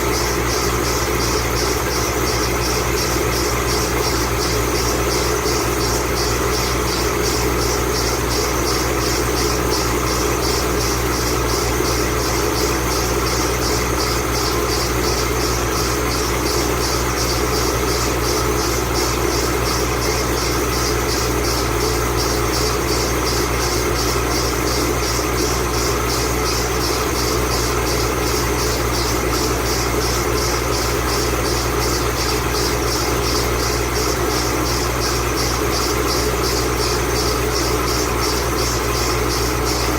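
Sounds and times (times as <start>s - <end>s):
car engine idling: 0.0s - 39.9s
pulsing belt squeal: 0.0s - 39.9s.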